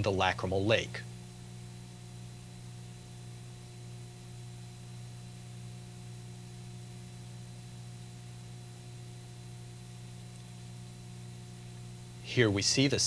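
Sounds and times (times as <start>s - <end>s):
constant hiss: 0.0s - 13.0s
low electrical hum: 0.0s - 13.0s
thin steady tones: 0.0s - 13.0s.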